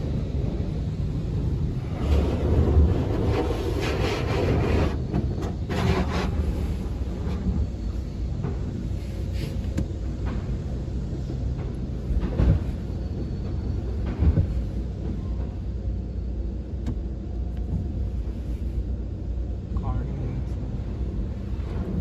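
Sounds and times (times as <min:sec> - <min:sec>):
low rumble inside car cabin: 0:00.0 - 0:22.0.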